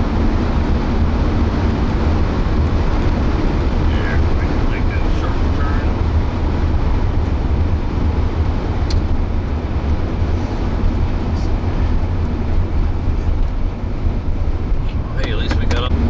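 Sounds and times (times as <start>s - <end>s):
car road noise from cabin: 0.0s - 16.0s.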